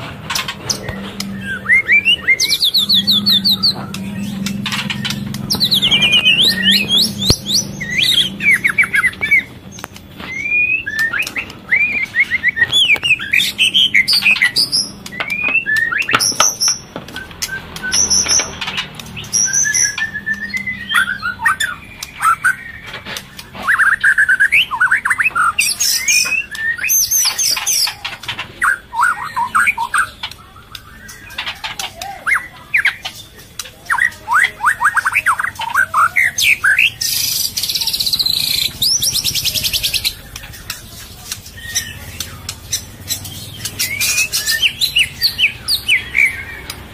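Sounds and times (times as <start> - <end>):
bird singing whistles: 0.7 - 28.0, 28.6 - 31.5, 33.9 - 40.8, 41.4 - 46.8.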